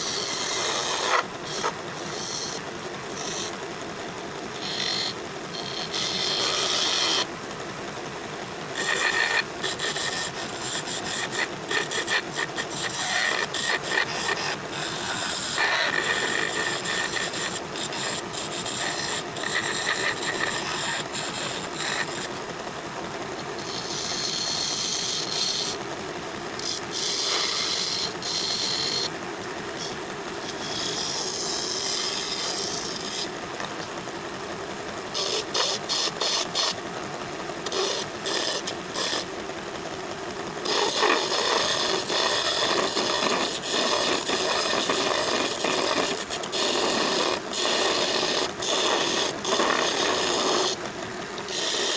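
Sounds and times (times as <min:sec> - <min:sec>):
lathe chisel rasping wood: 0:00.0 - 0:03.5, 0:04.6 - 0:07.3, 0:08.8 - 0:22.3, 0:23.6 - 0:25.8, 0:26.6 - 0:29.1, 0:29.8 - 0:33.3, 0:35.2 - 0:36.8, 0:37.6 - 0:39.3, 0:40.6 - 0:50.8, 0:51.4 - 0:51.9.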